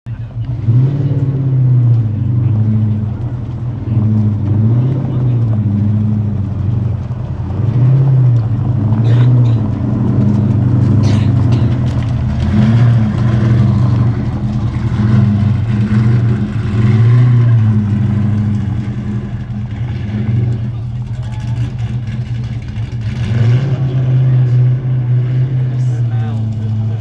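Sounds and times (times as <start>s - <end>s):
car engine revving: 0.1s - 27.0s.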